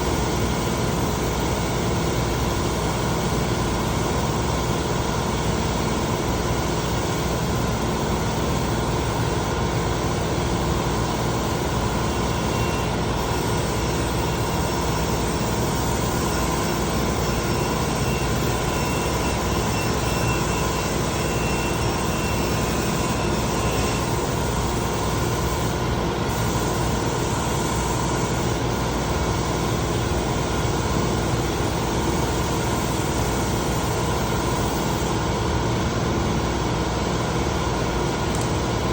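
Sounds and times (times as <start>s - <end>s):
spray machine drone: 0.0s - 38.9s.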